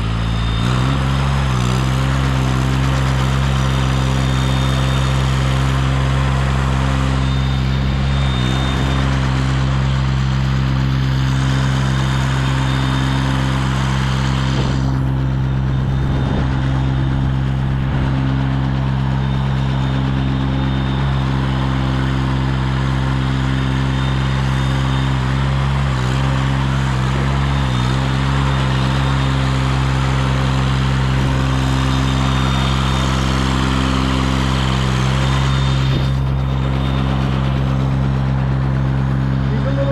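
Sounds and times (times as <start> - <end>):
aerial lift engine running: 0.0 - 39.9.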